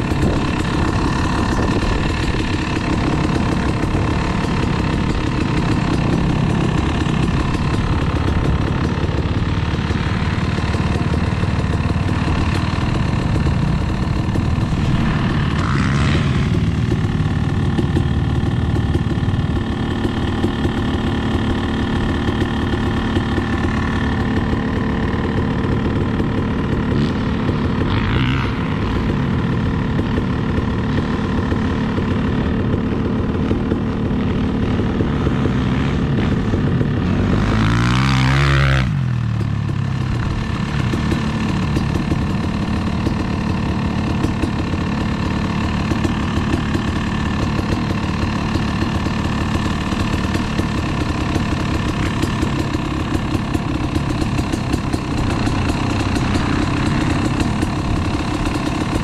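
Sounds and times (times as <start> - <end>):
dirt bike engine idling: 0.0 - 59.0.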